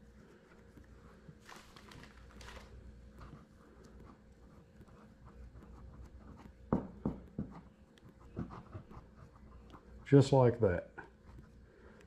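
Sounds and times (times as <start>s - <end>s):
hands rubbing clay: 0.0s - 10.4s.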